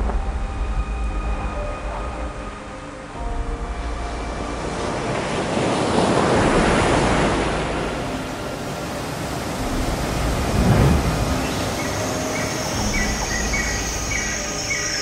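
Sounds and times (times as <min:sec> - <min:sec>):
wind-like rushing noise: 0:00.0 - 0:15.0.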